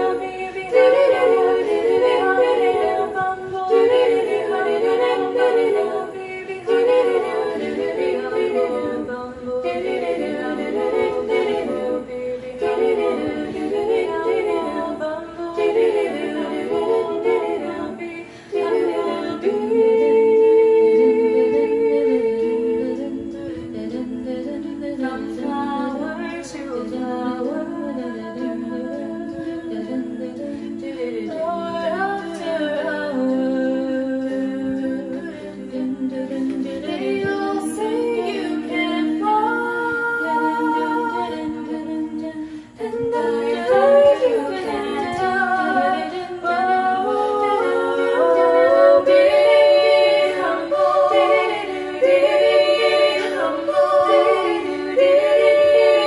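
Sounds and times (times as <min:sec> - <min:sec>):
women singing a cappella: 0:00.0 - 0:56.0.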